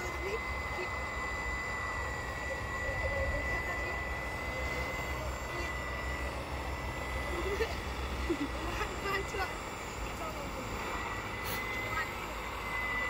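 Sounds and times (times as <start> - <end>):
toy excavator motor whining: 0.0 - 13.0.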